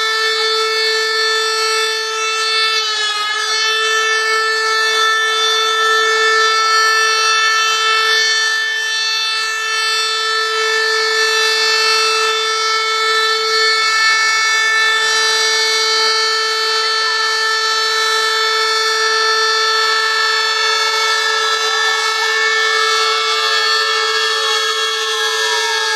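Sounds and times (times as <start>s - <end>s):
siren steady tone: 0.0s - 25.9s.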